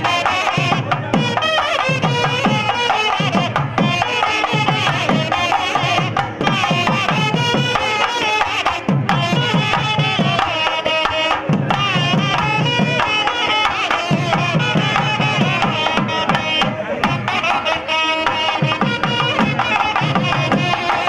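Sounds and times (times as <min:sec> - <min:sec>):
rapid drum strokes: 0:00.0 - 0:21.0.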